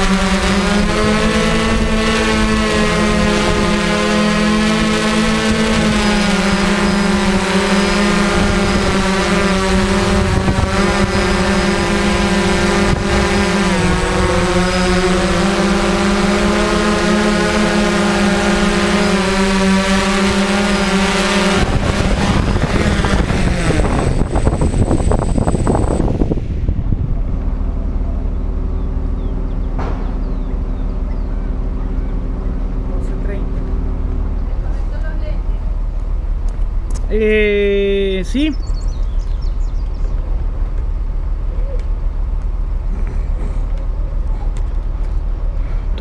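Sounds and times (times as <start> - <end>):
drone propellers humming: 0.0 - 46.0.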